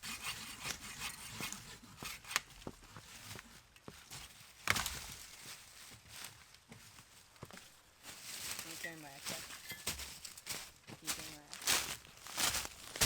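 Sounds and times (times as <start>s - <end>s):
rustling and crunching: 1.4s - 13.0s.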